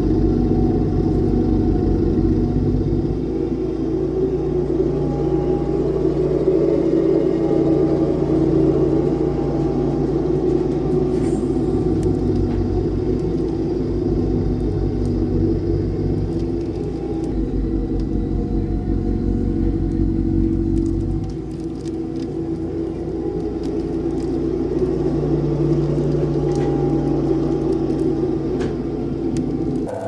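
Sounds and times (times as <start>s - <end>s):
lawn tractor engine running: 0.0s - 30.0s.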